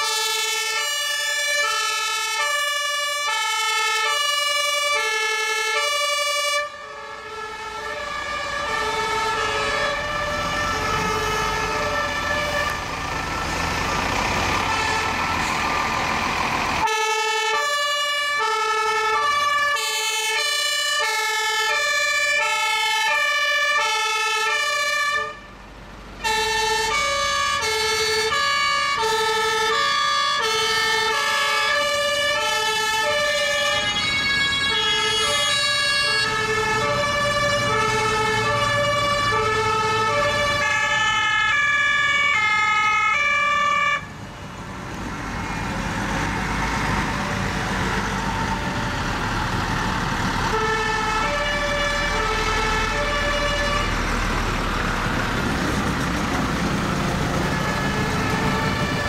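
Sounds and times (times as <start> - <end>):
truck diesel engine and tyres: 0.0 - 59.0
two-tone fire engine sirens: 0.0 - 59.0.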